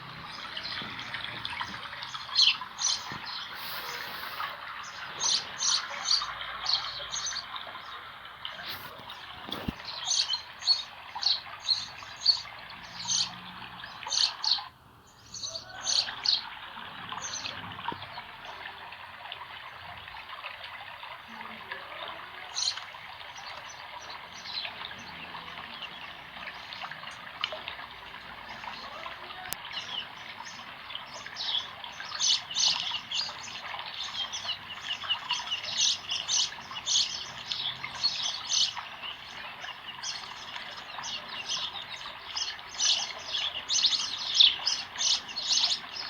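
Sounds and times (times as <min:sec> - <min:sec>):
small birds chirping: 0:00.0 - 0:46.0
spring water flowing: 0:00.0 - 0:46.0.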